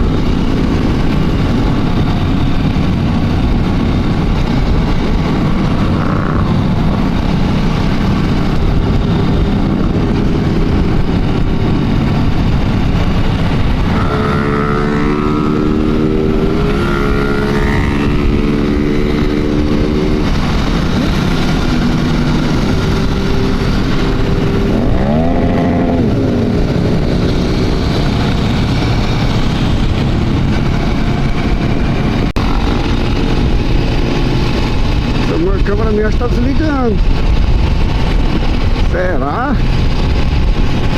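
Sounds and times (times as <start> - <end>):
motorcycle engines running: 0.0 - 40.9
wind noise: 0.0 - 40.9.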